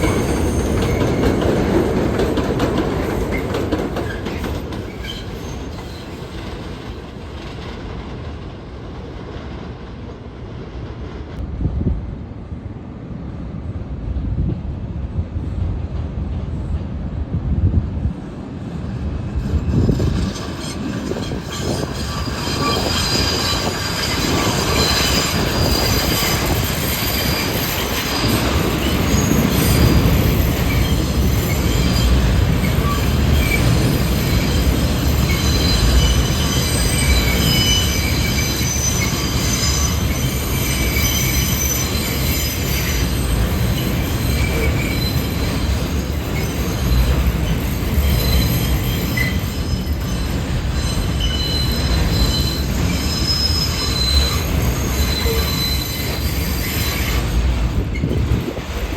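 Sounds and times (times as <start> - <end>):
train wheels squealing on rails: 0.0 - 11.4, 18.8 - 58.9
train rumble: 0.0 - 58.9.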